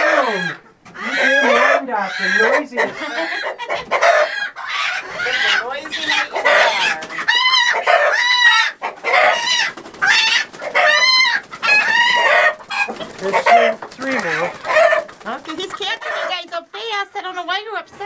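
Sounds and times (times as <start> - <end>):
chickens squawking in alarm: 0.0 - 17.4.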